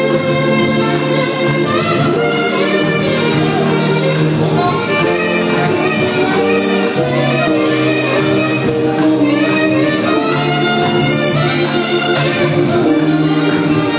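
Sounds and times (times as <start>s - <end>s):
live calypso band playing: 0.0s - 13.9s.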